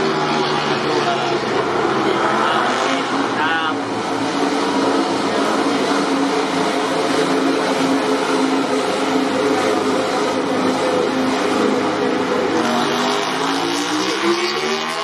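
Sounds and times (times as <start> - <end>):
racing motorcycle engine drone: 0.0 - 15.0.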